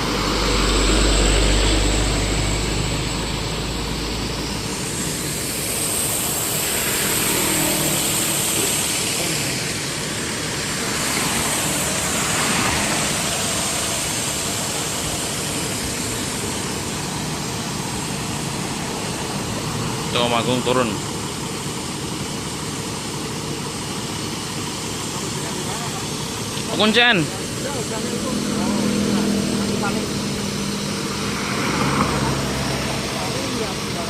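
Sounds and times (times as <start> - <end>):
vehicles passing: 0.0 - 24.2, 25.0 - 34.0
road traffic rumble: 0.0 - 34.0.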